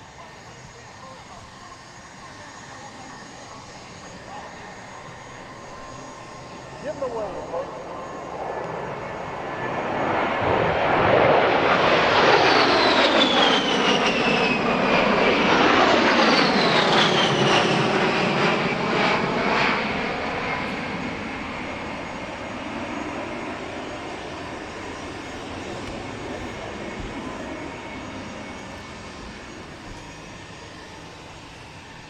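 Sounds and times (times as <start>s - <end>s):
piston aircraft engines flyby: 0.0s - 32.0s.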